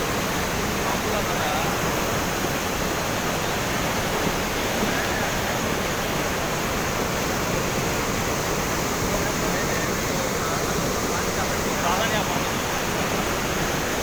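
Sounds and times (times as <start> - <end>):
water rushing through a dam: 0.0 - 14.0.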